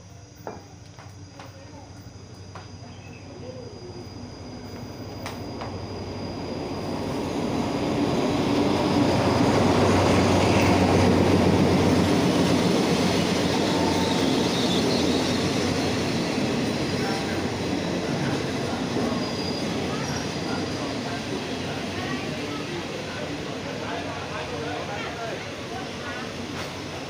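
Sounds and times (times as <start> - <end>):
train wheels on rails: 0.4 - 27.0.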